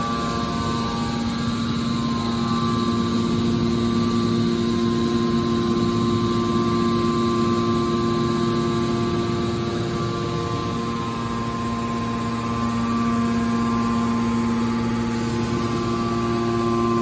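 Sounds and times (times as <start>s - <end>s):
hydraulic pump motor humming: 0.0s - 17.0s.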